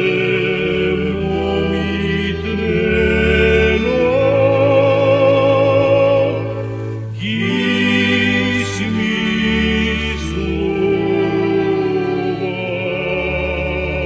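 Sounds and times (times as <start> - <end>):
instrumental accompaniment: 0.0 - 14.0
person singing with vibrato: 0.0 - 14.0.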